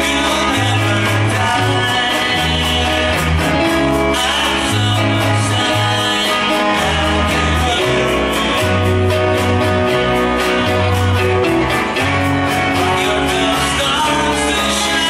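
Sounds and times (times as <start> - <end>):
live band playing slow ballad: 0.0 - 15.0.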